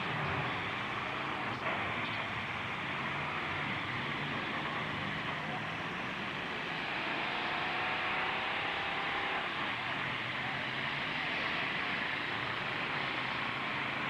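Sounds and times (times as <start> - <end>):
truck engines running: 0.0 - 14.0.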